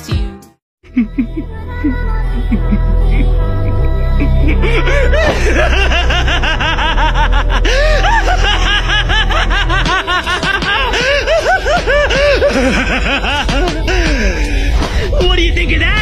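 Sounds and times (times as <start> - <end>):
man laughing wildly: 0.9 - 15.2
low background music: 0.9 - 16.0.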